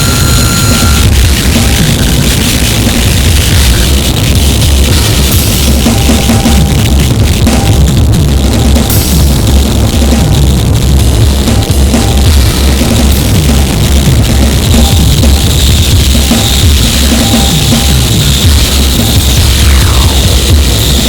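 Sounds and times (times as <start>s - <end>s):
distorted electronic noise: 0.0s - 21.0s
pounding drum kit: 0.0s - 21.0s.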